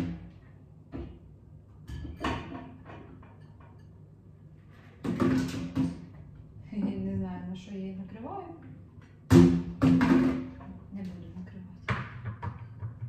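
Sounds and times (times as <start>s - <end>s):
knocks and clunks in a kitchen: 0.0s - 7.4s, 8.6s - 13.0s.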